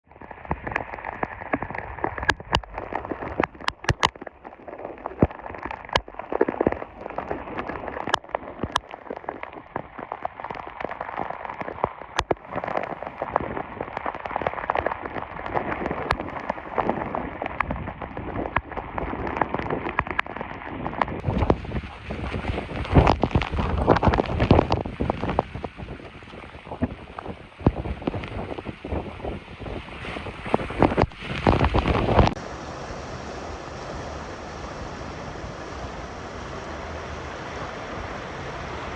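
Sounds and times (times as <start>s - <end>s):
large raindrops tapping: 0.1s - 32.4s
very heavy rain: 0.1s - 38.9s.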